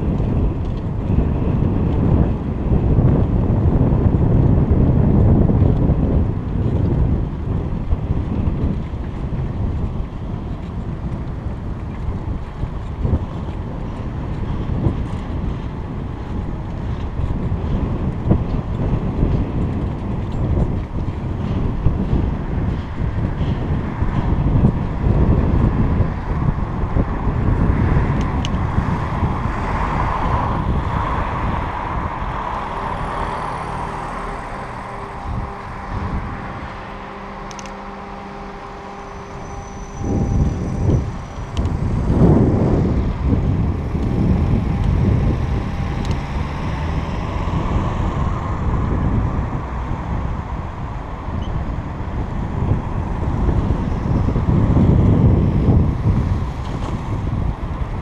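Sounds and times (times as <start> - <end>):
cars on the road: 0.0 - 58.0
wind buffeting microphone: 0.0 - 58.0.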